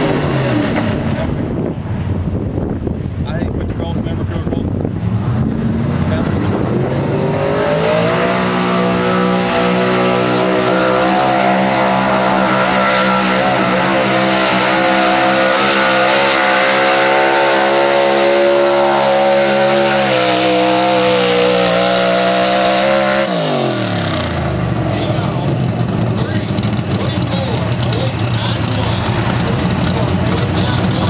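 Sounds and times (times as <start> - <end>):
truck engine revving under load: 0.0 - 3.1, 4.6 - 31.0.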